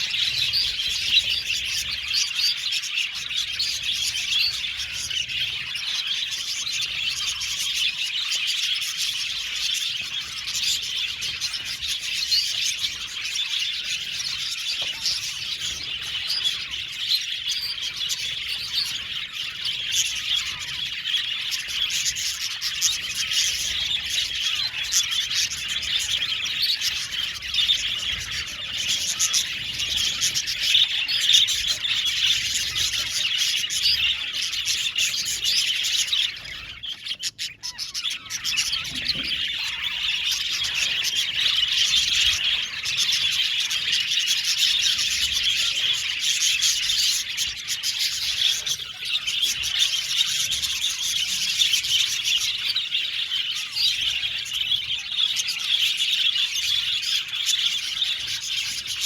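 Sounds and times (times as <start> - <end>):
flock of budgerigars chattering: 0.0 - 59.0.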